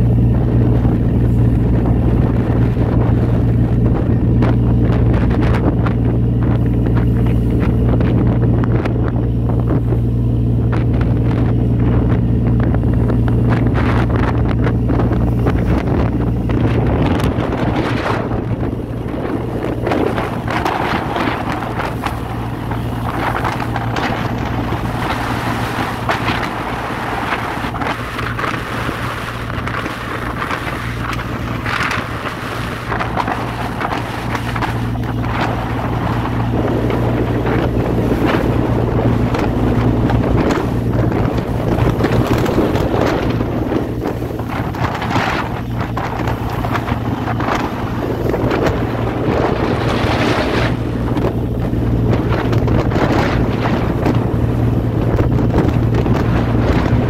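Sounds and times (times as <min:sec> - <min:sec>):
boat engine droning: 0:00.0 - 0:57.0
wind buffeting microphone: 0:00.0 - 0:57.0.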